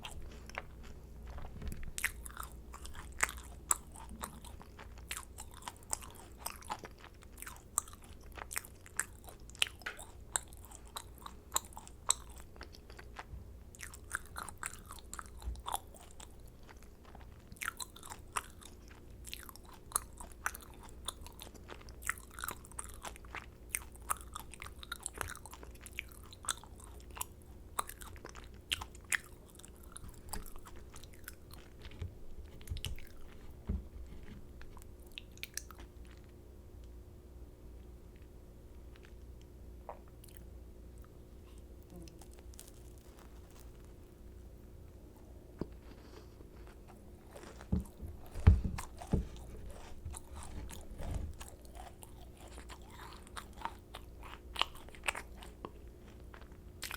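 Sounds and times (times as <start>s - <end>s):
chewing crackles and clicks: 0.0s - 33.6s, 34.2s - 37.0s, 38.1s - 44.1s, 46.7s - 56.9s.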